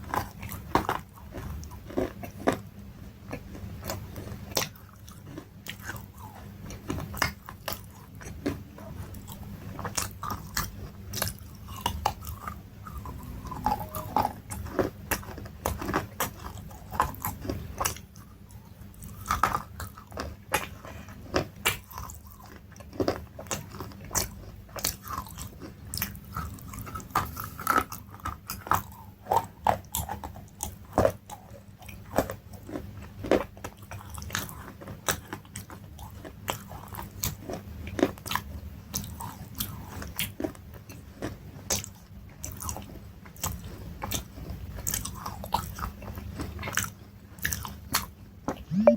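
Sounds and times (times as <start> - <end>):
person chewing crunchy food: 0.0 - 48.1.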